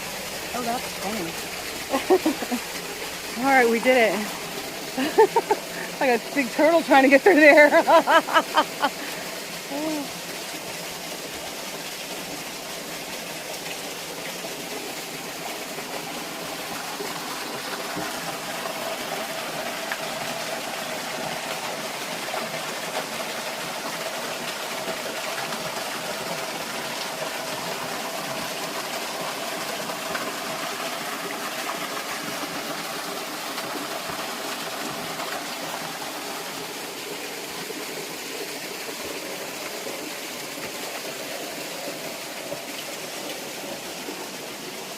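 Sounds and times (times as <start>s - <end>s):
stream water rushing: 0.0s - 44.9s.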